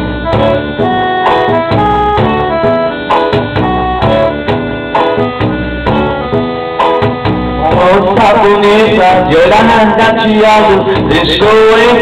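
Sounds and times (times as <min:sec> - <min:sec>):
bass line: 0:00.0 - 0:12.0
keyboard notes: 0:00.0 - 0:12.0
steady drum beat: 0:00.0 - 0:12.0.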